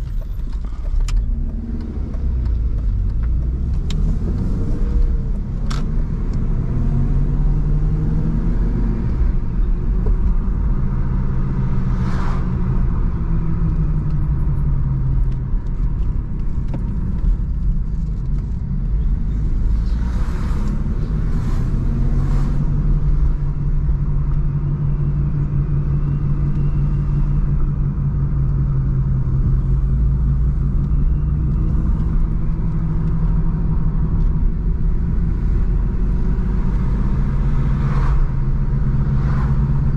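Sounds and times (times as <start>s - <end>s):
car engine running: 0.0s - 39.9s
road rumble: 0.0s - 39.9s.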